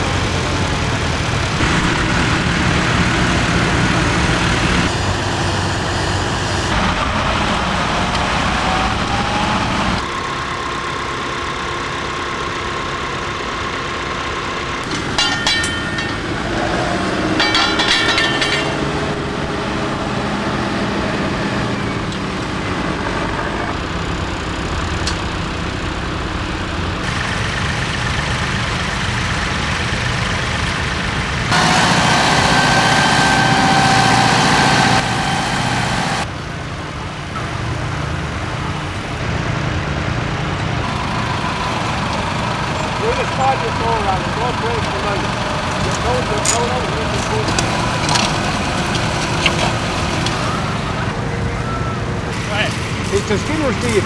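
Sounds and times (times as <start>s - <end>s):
diesel tractor engines: 0.0s - 54.0s.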